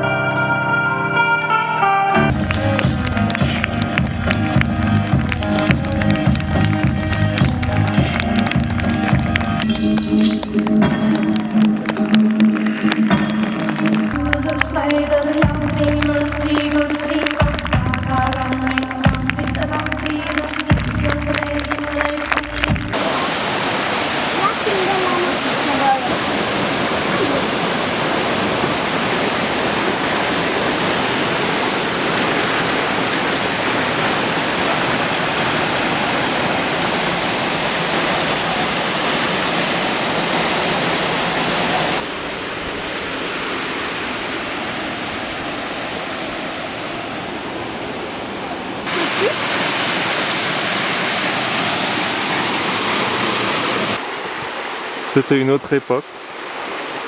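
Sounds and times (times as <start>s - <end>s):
rushing water: 2.3s - 57.0s.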